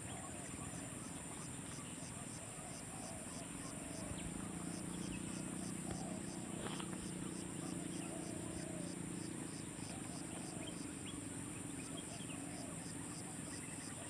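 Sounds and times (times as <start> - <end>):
cricket-like chirping: 0.0 - 14.0.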